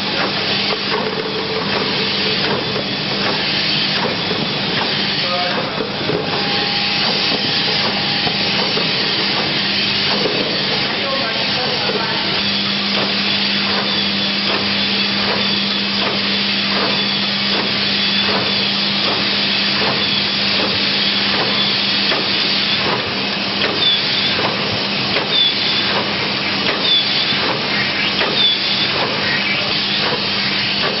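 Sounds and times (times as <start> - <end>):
machine hiss and hum: 0.0 - 31.0.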